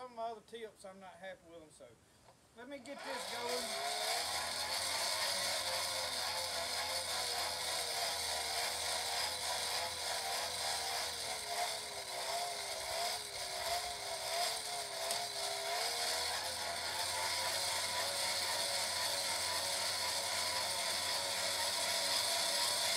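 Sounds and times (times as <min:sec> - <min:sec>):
hand-crank blower whining: 0:02.8 - 0:22.9.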